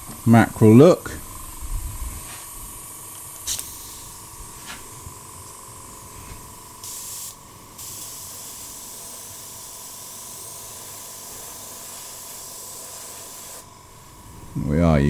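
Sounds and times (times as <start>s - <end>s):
airbrush spraying paint: 0.0s - 14.3s.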